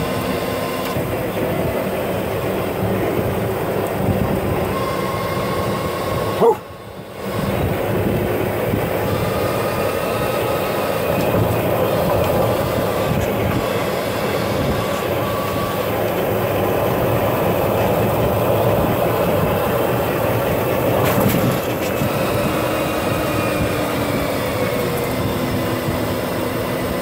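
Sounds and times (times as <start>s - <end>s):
golf cart running: 0.0s - 27.0s.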